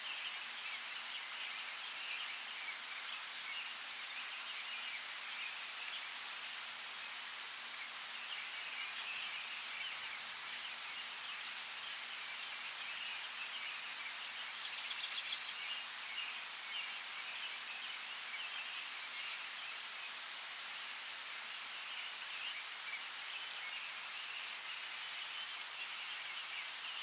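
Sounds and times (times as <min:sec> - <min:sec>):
small birds chirping: 0:00.0 - 0:27.0
steady rain hiss: 0:00.0 - 0:27.0.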